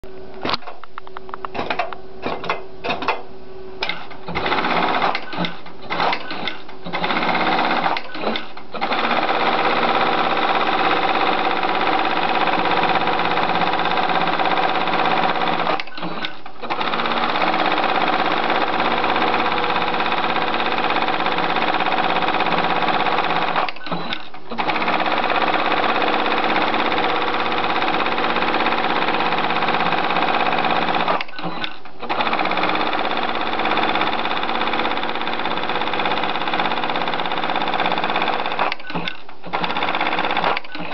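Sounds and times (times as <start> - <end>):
sewing machine clicks: 3.8 - 40.9
sewing machine stitching: 3.8 - 40.9.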